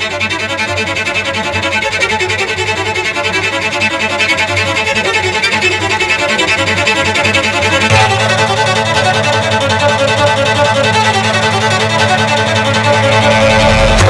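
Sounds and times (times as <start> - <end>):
lively instrumental music: 0.0 - 14.0.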